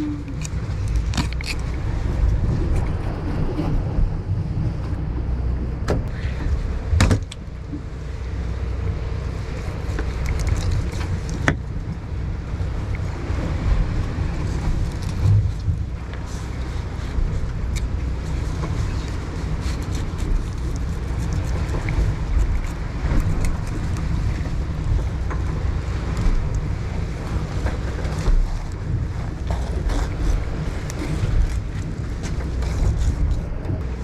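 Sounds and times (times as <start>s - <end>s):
boat low rumble: 0.0s - 34.0s.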